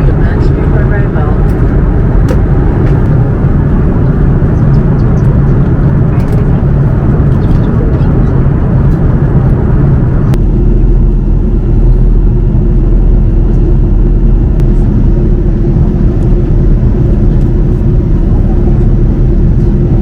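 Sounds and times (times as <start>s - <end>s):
airliner cabin engine rumble: 0.0s - 20.0s
steady hum: 0.0s - 20.0s.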